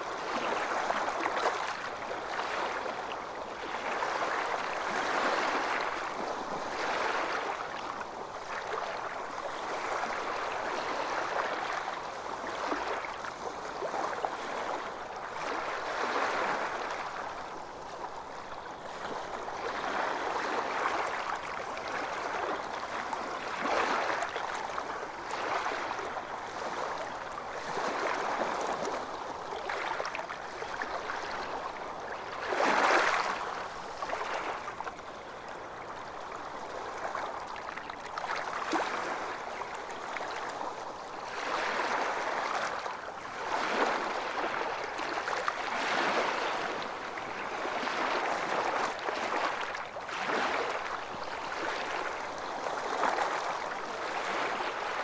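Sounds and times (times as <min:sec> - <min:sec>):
small waves lapping: 0:00.0 - 0:55.0.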